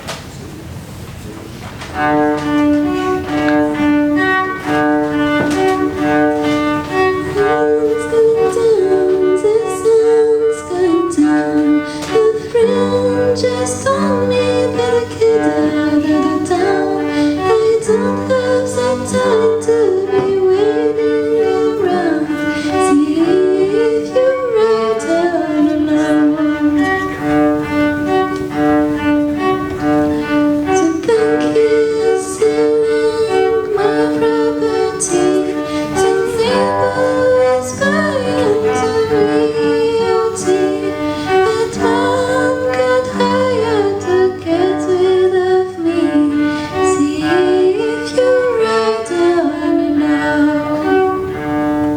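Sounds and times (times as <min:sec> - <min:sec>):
cello playing slow melody: 0:00.5 - 0:51.9.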